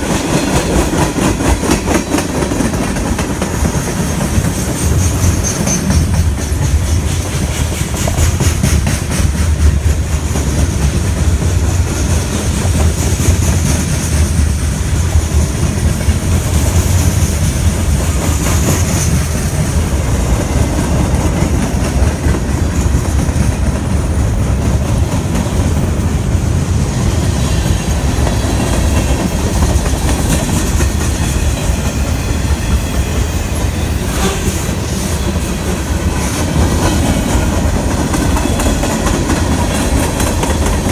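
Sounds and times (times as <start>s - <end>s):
train cars rumbling: 0.0s - 40.9s.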